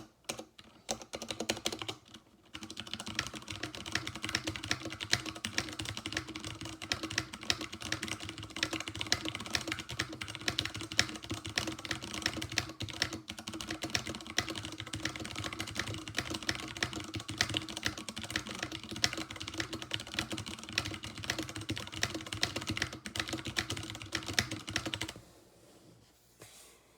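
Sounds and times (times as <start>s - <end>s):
typing on computer keyboard: 0.0s - 25.2s.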